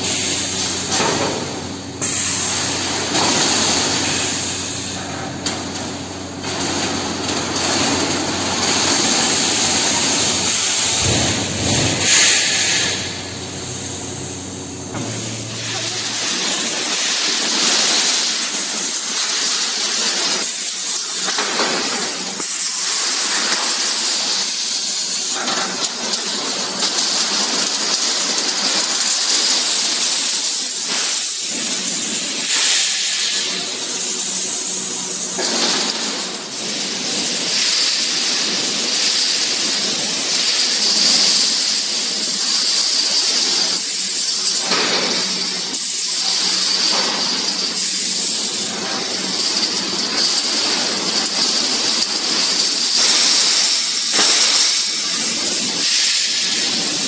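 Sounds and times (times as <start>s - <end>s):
welding machine hissing: 0.0s - 25.8s, 26.4s - 57.0s.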